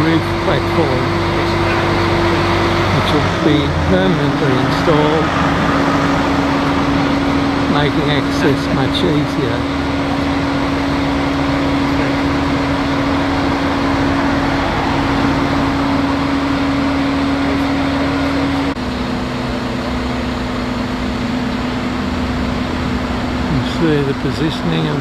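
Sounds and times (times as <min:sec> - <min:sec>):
crane engines humming: 0:00.0 - 0:25.0.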